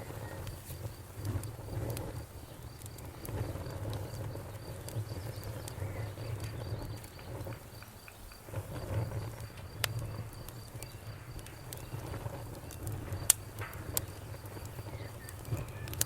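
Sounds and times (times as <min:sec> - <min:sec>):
bonfire crackling and popping: 0:00.0 - 0:16.0
crickets chirping: 0:00.0 - 0:16.0.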